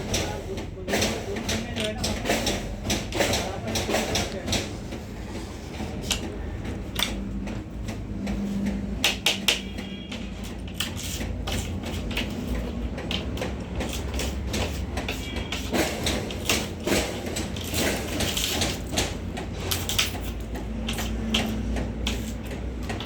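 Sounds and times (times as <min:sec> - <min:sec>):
sharp clicks and knocks: 0:00.0 - 0:23.0.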